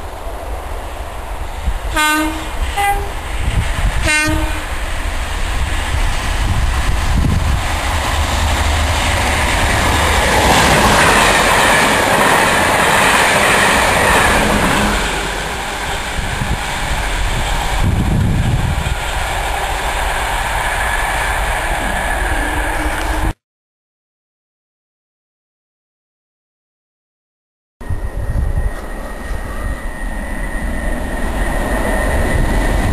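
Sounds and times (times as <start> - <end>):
diesel locomotive engine drone: 0.0 - 23.4, 27.8 - 32.9
wheel and rail noise: 0.0 - 23.4, 27.8 - 32.9.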